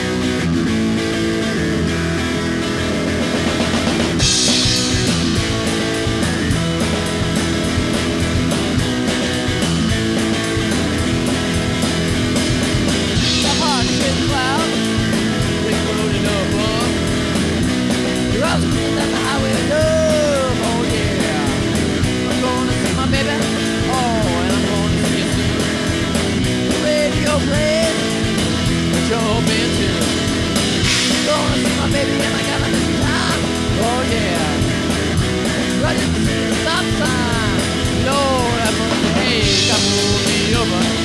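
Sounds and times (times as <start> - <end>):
rock band playing: 0.0 - 41.0.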